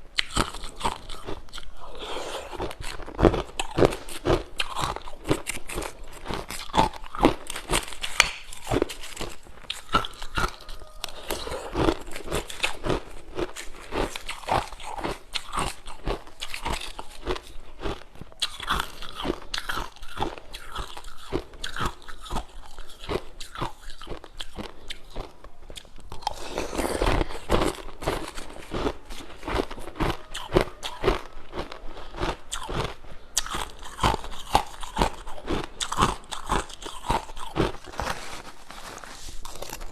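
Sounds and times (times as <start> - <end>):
crisp crunching: 0.2 - 39.9.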